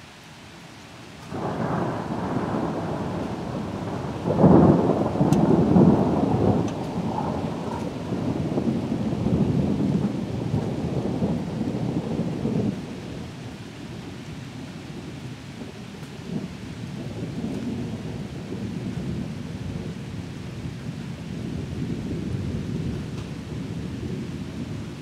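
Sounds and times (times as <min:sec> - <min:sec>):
steady rain: 0:00.0 - 0:25.0
thunder rumbling: 0:01.3 - 0:25.0.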